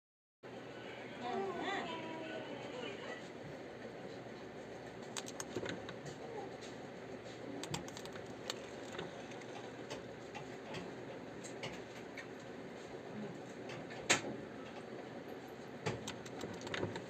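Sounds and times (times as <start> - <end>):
steady background noise: 0.5 - 17.0.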